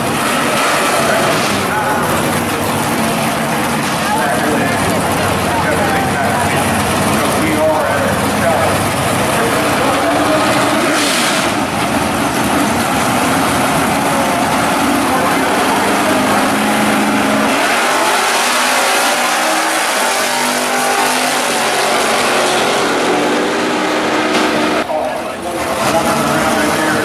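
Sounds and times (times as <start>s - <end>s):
race car engines revving and accelerating: 0.0s - 27.0s.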